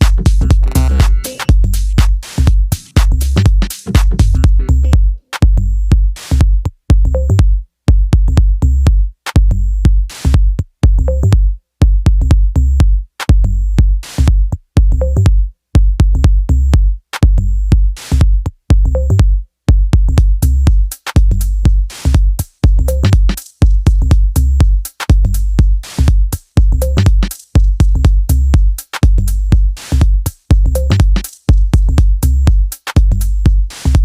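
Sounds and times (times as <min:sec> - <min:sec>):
electronic music with bass beat: 0:00.0 - 0:34.0.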